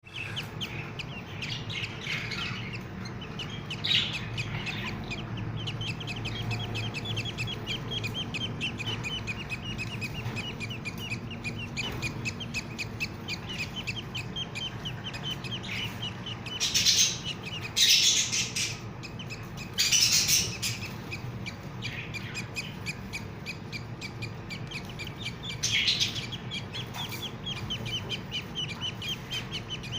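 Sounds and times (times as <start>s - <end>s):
budgie chirping: 0.0s - 29.9s
harsh budgie squawks: 0.0s - 29.9s.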